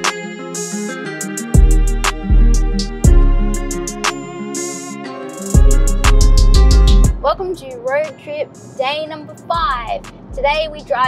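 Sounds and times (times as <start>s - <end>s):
background music with a beat: 0.0s - 11.0s.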